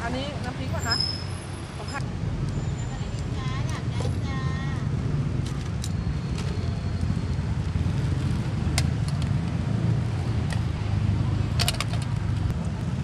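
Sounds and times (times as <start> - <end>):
passing traffic: 0.0 - 13.0
street market background noise: 0.0 - 13.0.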